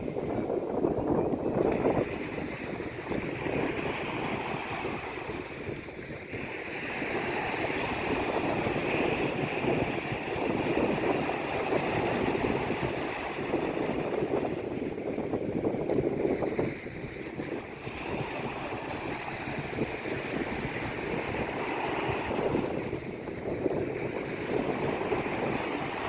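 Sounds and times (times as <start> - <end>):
sea waves washing: 0.0 - 26.0.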